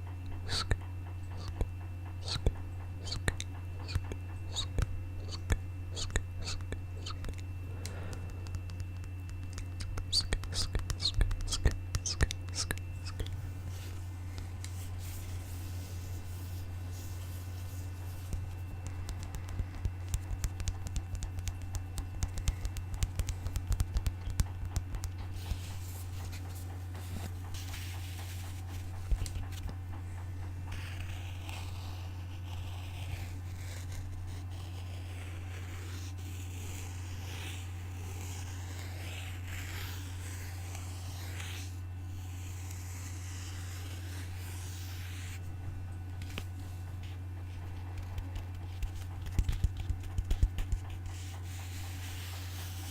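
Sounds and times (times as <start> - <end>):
low electrical hum: 0.0 - 52.9
scratching and rubbing: 2.2 - 45.6, 46.2 - 52.9.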